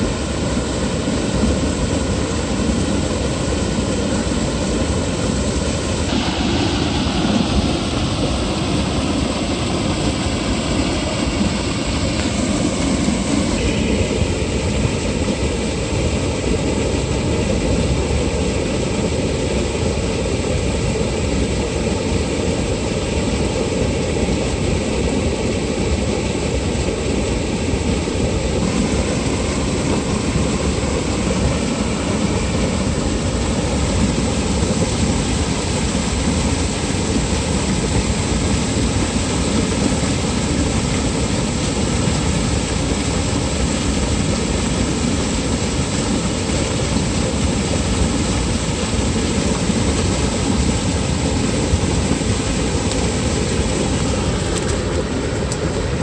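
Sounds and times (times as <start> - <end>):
water gushing and churning: 0.0 - 56.0.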